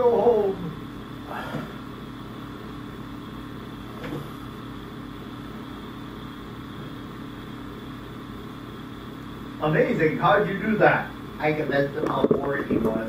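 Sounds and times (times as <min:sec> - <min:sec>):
steady low hum with hiss: 0:00.0 - 0:13.0.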